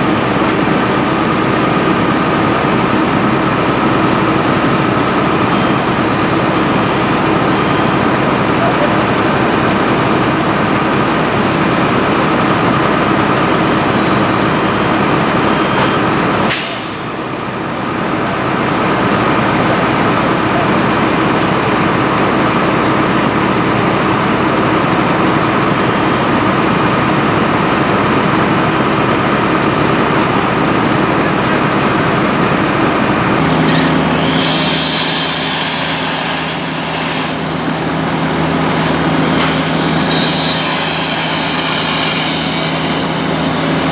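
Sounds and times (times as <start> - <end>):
fire truck engines droning: 0.0 - 43.9.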